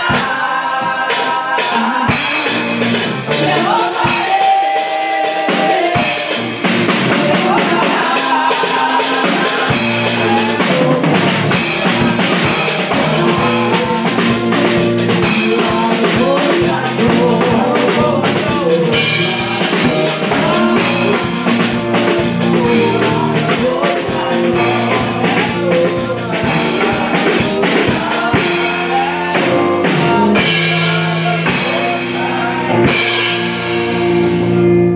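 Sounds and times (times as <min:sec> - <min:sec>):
women singing into microphones: 0:00.0 - 0:33.3
drum beat: 0:00.0 - 0:34.2
bass: 0:00.0 - 0:34.9.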